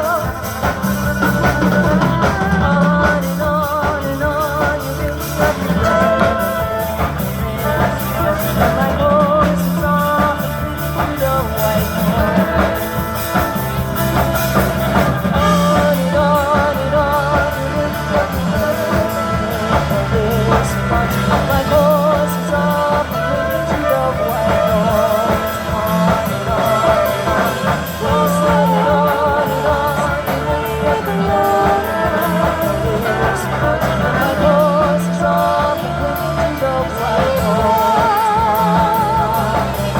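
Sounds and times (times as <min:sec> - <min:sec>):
bass notes: 0:00.0 - 0:39.9
drum beat: 0:00.0 - 0:39.9
live band playing: 0:00.0 - 0:39.9
person singing with vibrato: 0:00.0 - 0:39.9.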